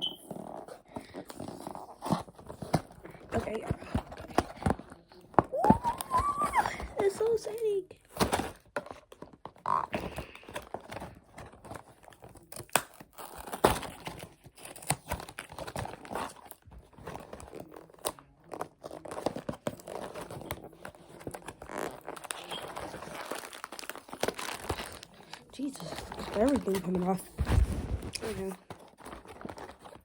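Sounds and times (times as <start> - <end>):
food packaging crinkling and tearing: 0.2 - 30.0.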